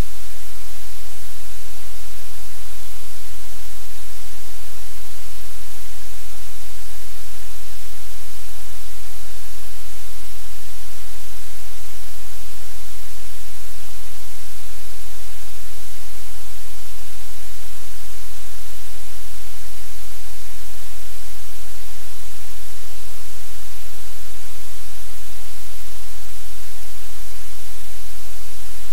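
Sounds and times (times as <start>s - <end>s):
loud steady hiss: 0.0s - 28.9s.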